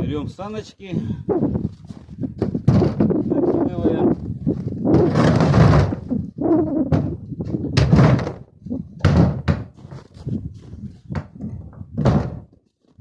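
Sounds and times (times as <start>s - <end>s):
plastic sled knocking and scraping: 1.8s - 13.0s.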